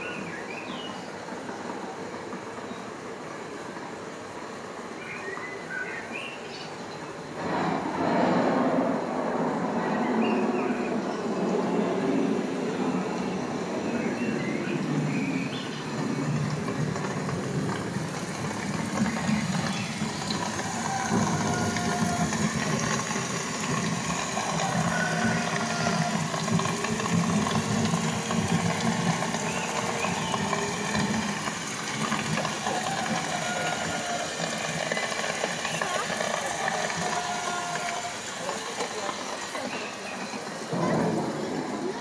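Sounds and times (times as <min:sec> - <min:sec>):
faint distant voices: 0:00.0 - 0:42.0
hall rumble and hiss: 0:00.0 - 0:42.0.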